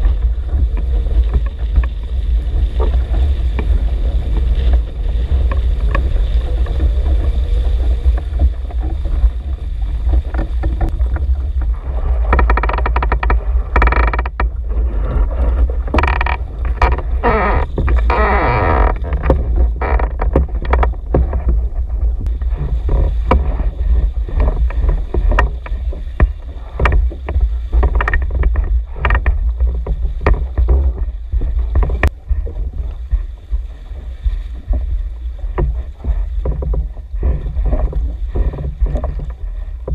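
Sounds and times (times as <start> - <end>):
boat and rigging knocks: 0.0 - 39.9
water rushing and splashing: 0.0 - 39.9
wind rumble on microphone: 0.0 - 39.9.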